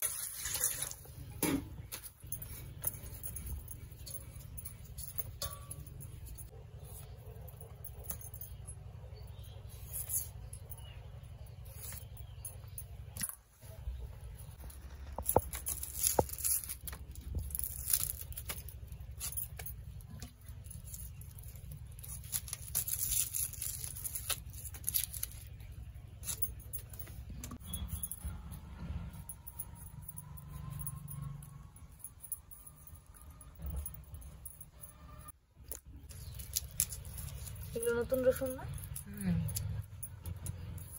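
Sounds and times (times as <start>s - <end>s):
low steady rumble: 1.0s - 40.9s.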